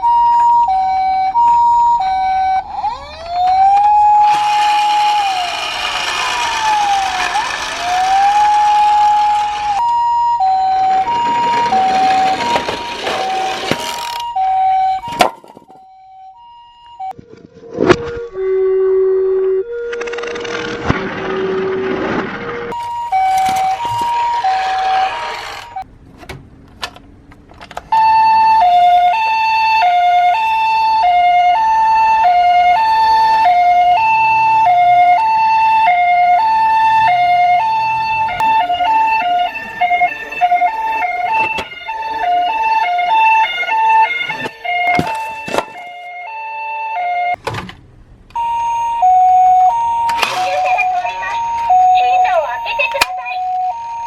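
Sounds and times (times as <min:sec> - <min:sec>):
two-tone ambulance siren: 0:00.0 - 0:25.9, 0:27.8 - 0:47.4, 0:48.3 - 0:54.0.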